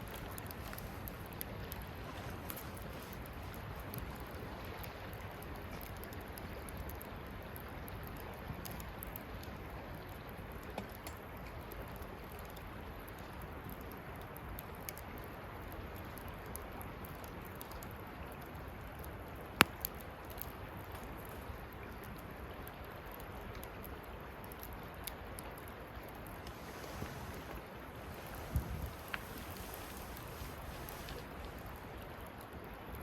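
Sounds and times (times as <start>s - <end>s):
campfire hissing and crackling: 0.0s - 33.0s.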